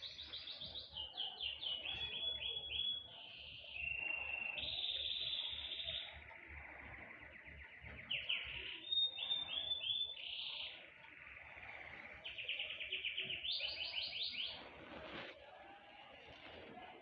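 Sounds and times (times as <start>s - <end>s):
small songbirds singing: 0.0s - 17.0s.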